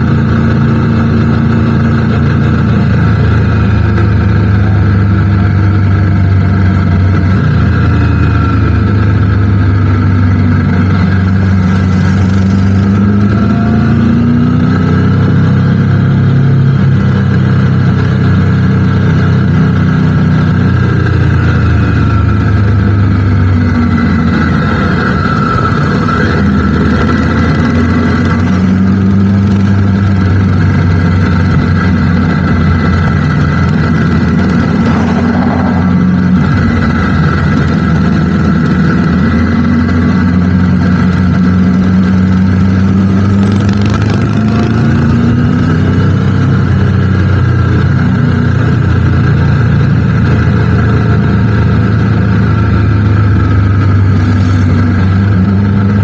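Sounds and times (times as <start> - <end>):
constant rushing noise: 0.0 - 56.0
motorcycle engine running: 0.0 - 56.0.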